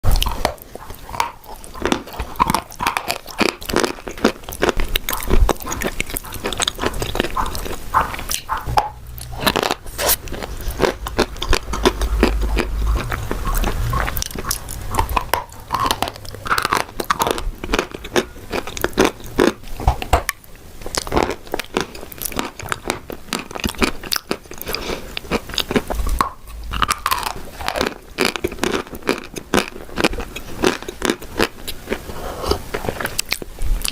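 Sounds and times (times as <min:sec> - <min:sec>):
chalk crunching while chewed: 0:00.0 - 0:33.9.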